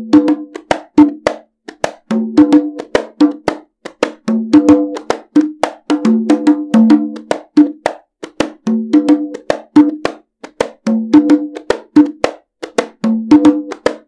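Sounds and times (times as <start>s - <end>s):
congas played by hand: 0.0s - 14.0s.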